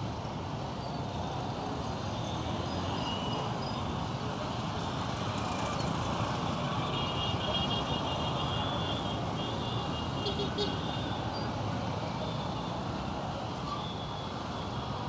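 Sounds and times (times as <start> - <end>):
minibuses in traffic: 0.0 - 15.0.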